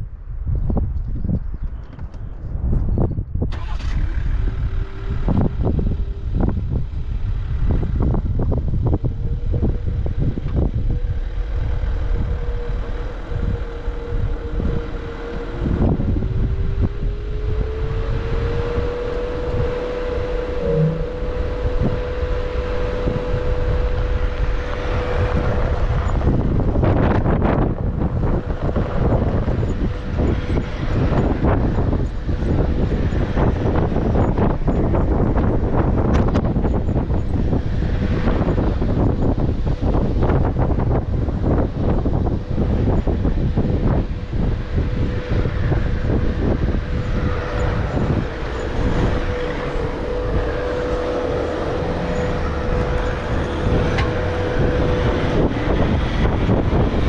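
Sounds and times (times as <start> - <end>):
wind buffeting microphone: 0.0 - 57.0
whining drivetrain: 1.7 - 57.0
vehicle driving on gravel: 3.5 - 57.0.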